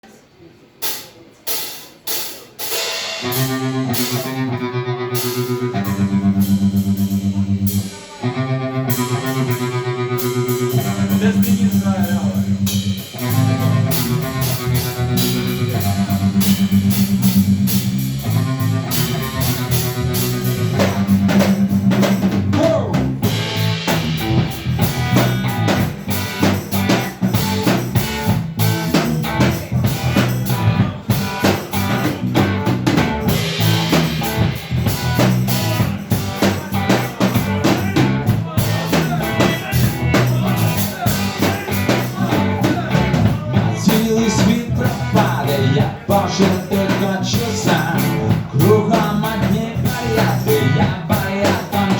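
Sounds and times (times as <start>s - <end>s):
rock band instrumental: 0.8s - 51.9s.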